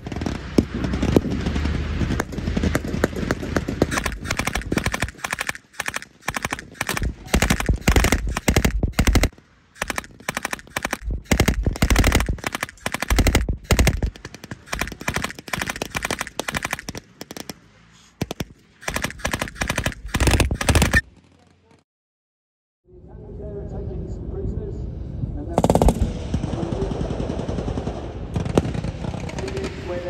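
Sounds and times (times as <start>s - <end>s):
machine gun automatic fire: 0.0s - 17.6s, 18.2s - 21.4s, 25.6s - 29.8s.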